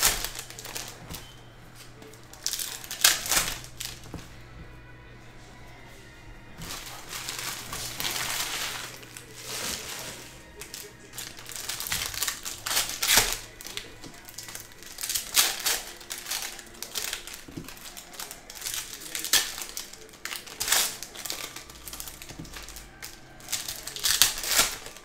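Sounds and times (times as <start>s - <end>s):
foil wrappers crinkling: 0.0s - 25.0s.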